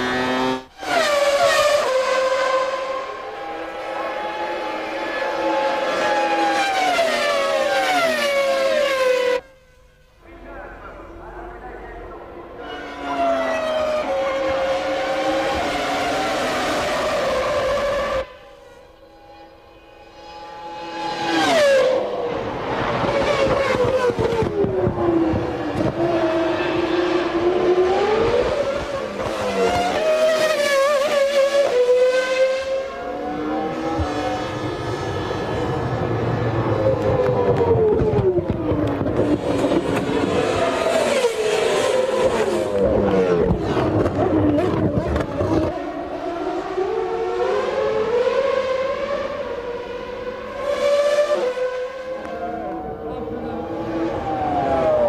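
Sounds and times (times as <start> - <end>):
race car engines at high revs: 0.0 - 9.6, 11.1 - 55.0.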